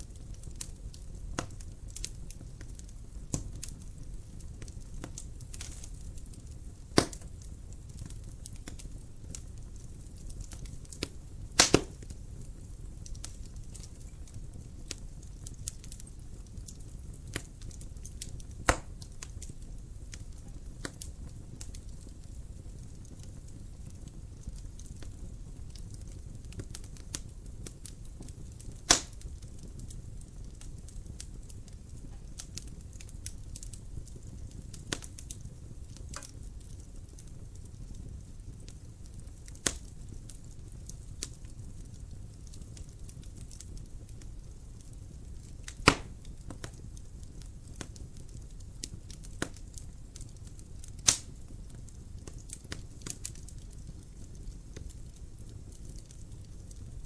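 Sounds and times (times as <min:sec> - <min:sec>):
wood fire crackling: 0:00.0 - 0:57.0
loud fire pops: 0:00.1 - 0:57.0.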